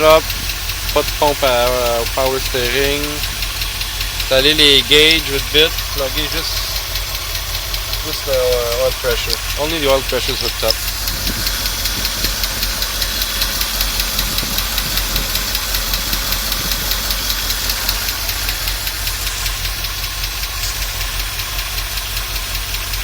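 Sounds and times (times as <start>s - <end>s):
car engine idling: 0.0s - 23.0s
snappy engine ticking: 0.0s - 23.0s.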